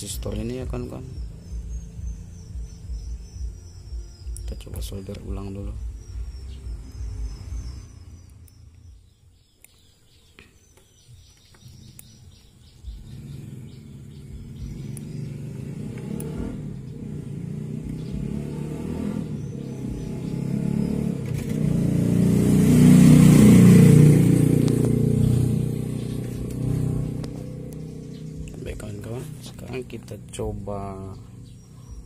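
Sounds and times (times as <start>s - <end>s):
vehicle engine passing by: 0.0s - 9.0s, 11.6s - 32.0s.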